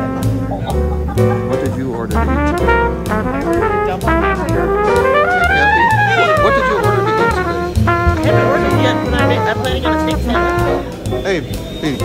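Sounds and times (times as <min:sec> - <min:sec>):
jazzy music with brass: 0:00.0 - 0:12.0.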